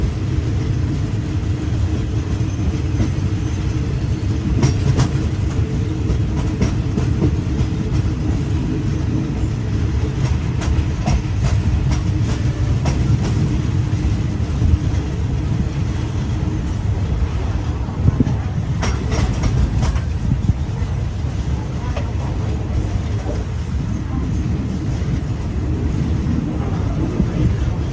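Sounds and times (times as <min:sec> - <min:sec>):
train low rumble: 0:00.0 - 0:27.9
wheels clicking on rails: 0:00.0 - 0:27.9.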